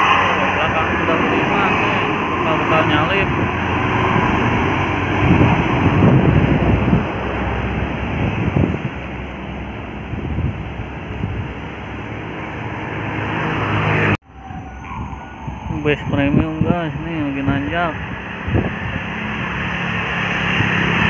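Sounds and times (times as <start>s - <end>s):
bus diesel engines labouring uphill: 0.0s - 21.0s.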